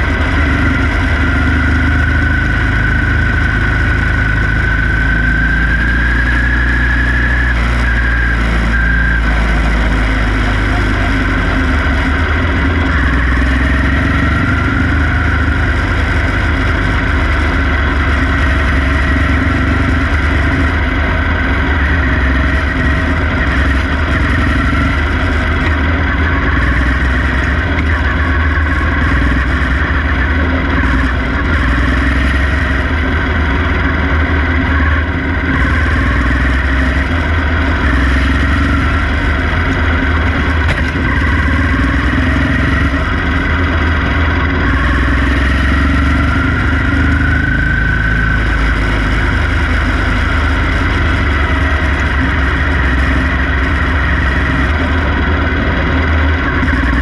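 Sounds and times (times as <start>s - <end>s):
other race car engines nearby: 0.0s - 57.0s
race car engine running: 0.0s - 57.0s.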